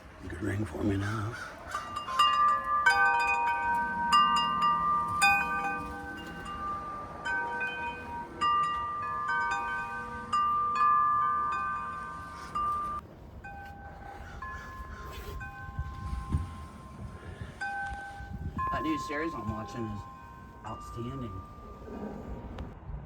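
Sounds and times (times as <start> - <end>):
metal wind chimes ringing: 0.3 - 22.6.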